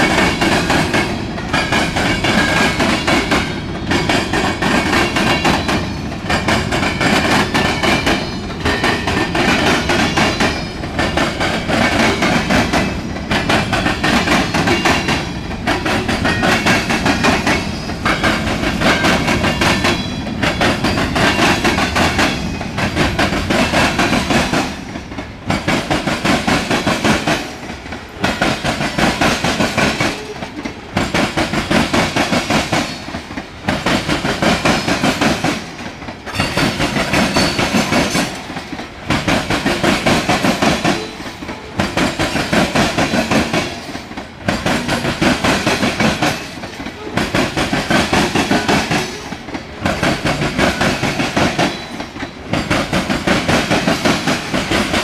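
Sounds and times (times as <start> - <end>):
freight cars clattering on rails: 0.0 - 55.0.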